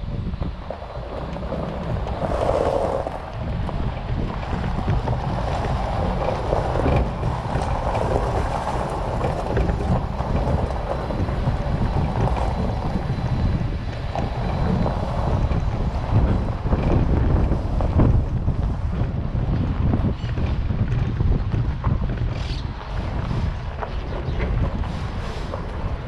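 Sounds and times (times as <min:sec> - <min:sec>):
trailer rumbling over gravel: 0:00.0 - 0:26.0
wind buffeting microphone: 0:00.0 - 0:26.0.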